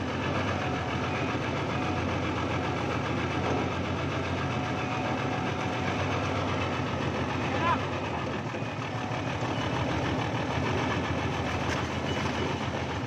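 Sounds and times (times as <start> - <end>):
backhoe engine idling: 0.0 - 13.0.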